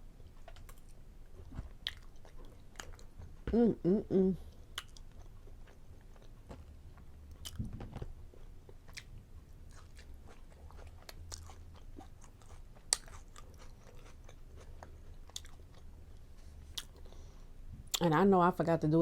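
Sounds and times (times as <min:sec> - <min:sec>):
steady low hum: 0:00.0 - 0:19.0
person chewing food: 0:00.2 - 0:03.6, 0:04.4 - 0:17.3.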